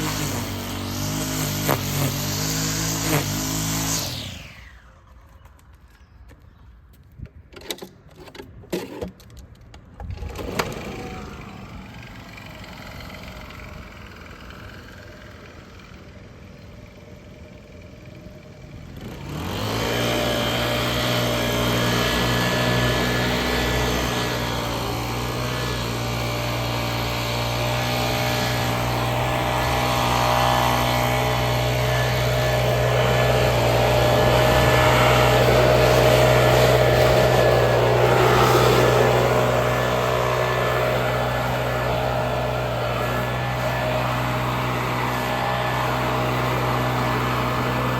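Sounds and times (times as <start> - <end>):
small petrol engine running: 0.0 - 5.7, 10.0 - 47.9.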